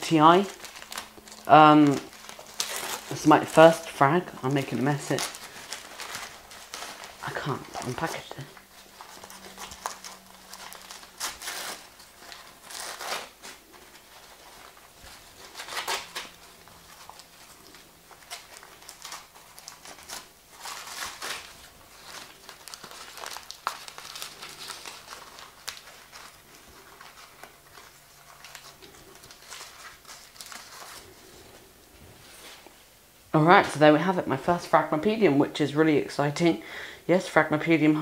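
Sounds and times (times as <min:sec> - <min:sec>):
paper and plastic crinkling: 0:00.0 - 0:32.8.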